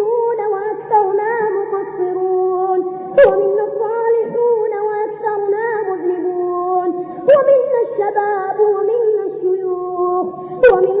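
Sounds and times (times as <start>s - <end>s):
high voice chanting: 0.0s - 11.0s.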